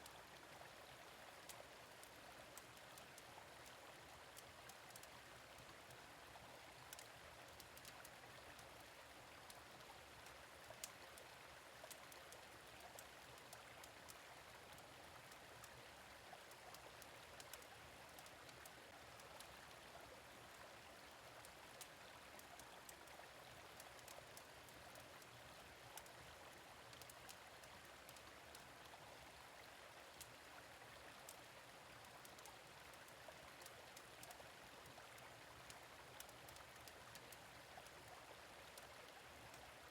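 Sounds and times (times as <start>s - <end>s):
gentle stream running: 0.0s - 39.9s.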